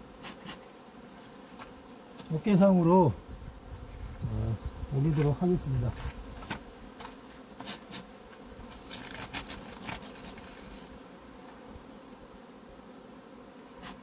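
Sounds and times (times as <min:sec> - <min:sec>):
bees humming: 0:00.0 - 0:14.0.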